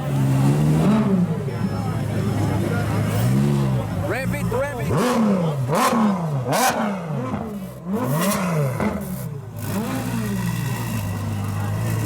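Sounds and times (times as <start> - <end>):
car engine revving and idling: 0.0 - 12.0.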